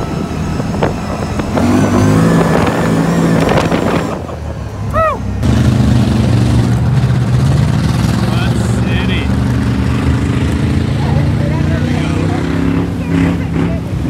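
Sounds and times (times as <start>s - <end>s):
low truck engine drone: 0.0s - 14.0s
utility vehicle engine accelerating: 0.0s - 14.0s.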